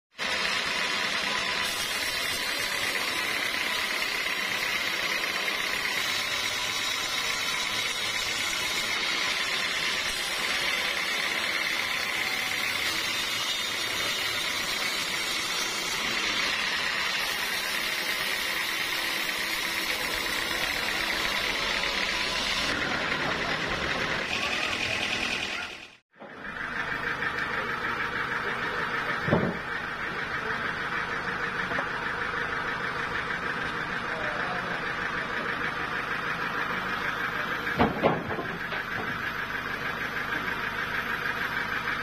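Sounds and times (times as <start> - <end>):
band saw whining: 0.1 - 42.0.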